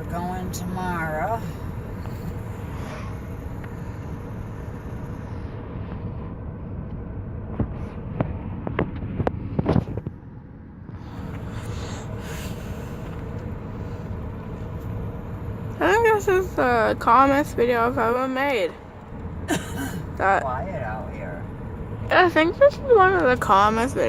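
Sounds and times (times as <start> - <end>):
car road noise rumble: 0.0 - 24.0.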